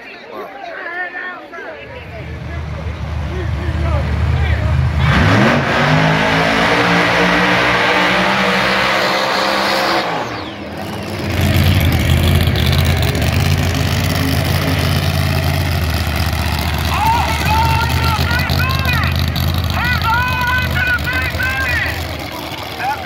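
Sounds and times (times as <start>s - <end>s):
drag cars at full throttle: 1.6s - 23.0s
drag car engine rumbling: 1.7s - 23.0s.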